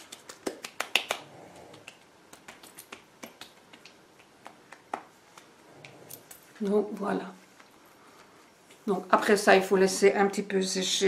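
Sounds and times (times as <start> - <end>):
hands patting skin: 0.0 - 8.9.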